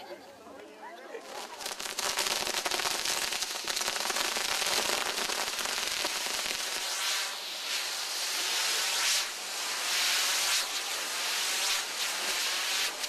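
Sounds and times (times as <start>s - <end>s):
firecrackers crackling: 1.0s - 13.0s
fireworks hissing: 1.1s - 13.0s.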